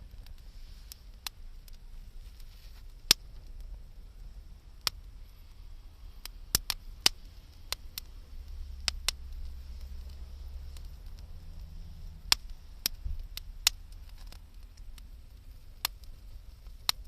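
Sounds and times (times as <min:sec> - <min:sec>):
campfire crackling and popping: 0:00.0 - 0:17.0
faint low rumble: 0:00.0 - 0:17.0.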